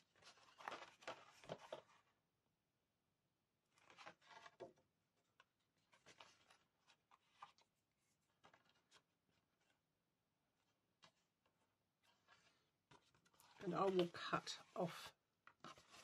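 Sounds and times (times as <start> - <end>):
paper card rustling: 0.0 - 2.1, 3.7 - 9.8, 10.5 - 16.0.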